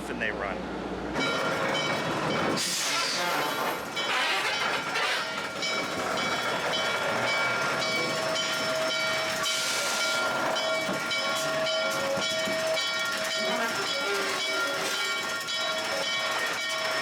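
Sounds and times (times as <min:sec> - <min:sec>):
steam train running: 0:00.7 - 0:17.0
steam hissing: 0:02.5 - 0:05.4, 0:06.0 - 0:17.0.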